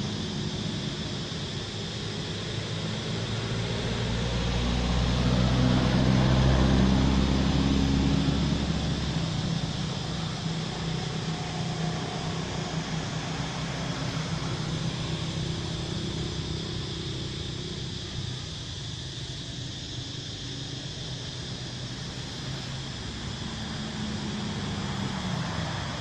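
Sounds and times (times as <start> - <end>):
motor engine humming: 0.0 - 26.0.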